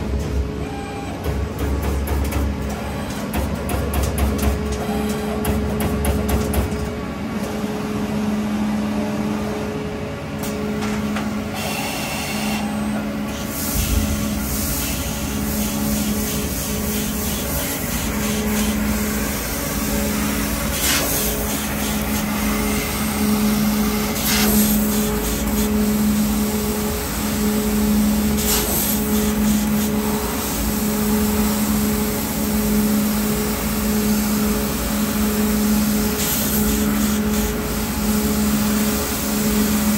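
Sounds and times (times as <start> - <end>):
industrial machine hum: 0.0 - 39.9.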